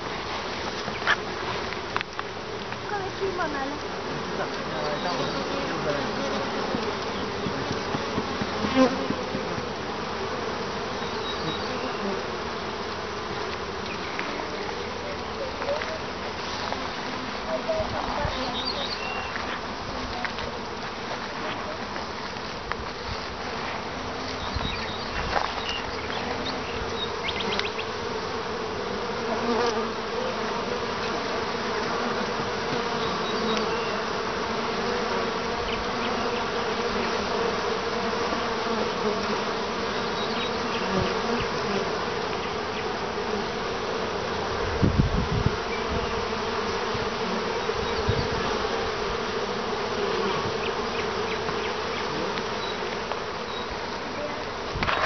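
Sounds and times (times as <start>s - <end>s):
honey bees buzzing: 0.0s - 55.0s.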